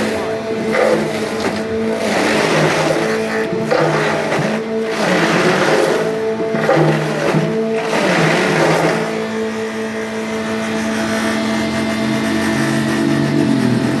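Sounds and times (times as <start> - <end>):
grinding machine drone: 0.0 - 14.0.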